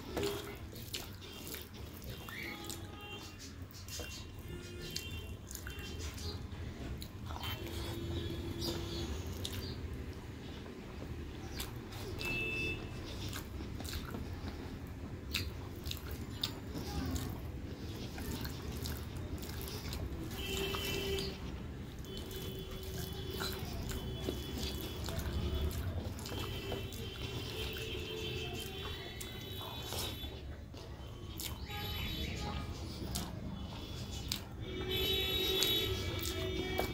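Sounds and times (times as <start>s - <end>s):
chewing: 0.0s - 36.9s.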